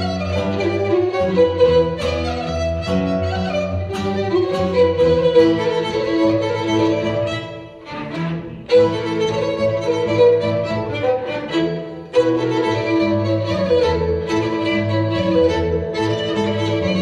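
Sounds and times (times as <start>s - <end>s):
bowed folk fiddle: 0.0s - 17.0s
string orchestra playing: 0.0s - 17.0s.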